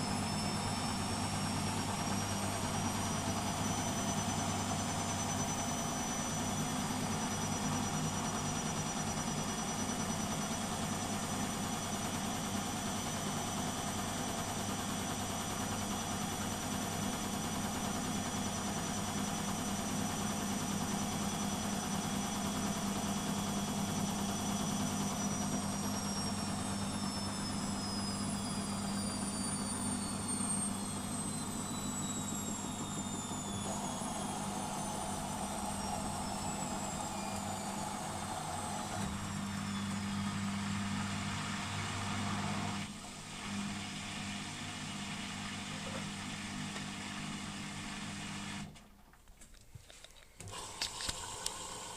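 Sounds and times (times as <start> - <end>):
motor whine: 0.0 - 48.7, 50.4 - 51.9
washing machine running: 0.0 - 49.0, 50.4 - 51.9.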